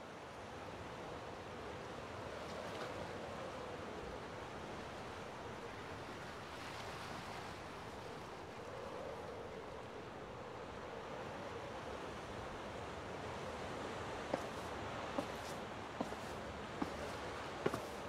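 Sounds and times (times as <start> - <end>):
wind-like rushing ambience: 3.2 - 18.0.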